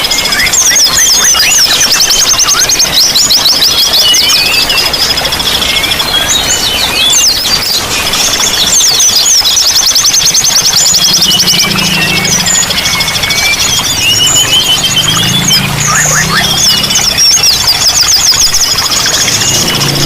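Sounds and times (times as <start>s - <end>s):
running water: 0.0s - 20.0s
songbirds chattering trills: 0.0s - 20.0s.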